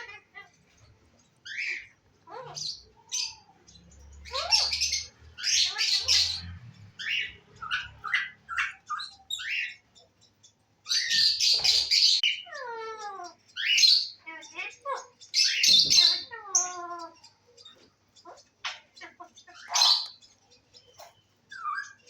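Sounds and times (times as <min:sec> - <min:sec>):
parakeet chirping: 0:00.0 - 0:22.0
parakeet squawking: 0:00.0 - 0:22.0.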